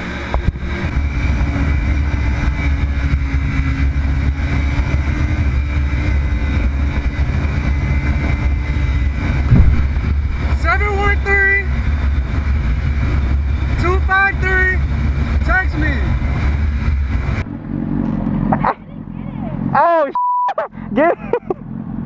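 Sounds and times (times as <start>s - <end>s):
motorcycle engine rumble: 0.0s - 19.8s.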